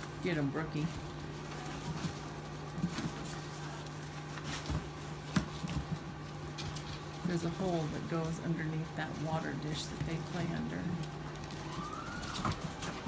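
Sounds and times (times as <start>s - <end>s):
puppies scampering in bedding: 0.0s - 13.0s.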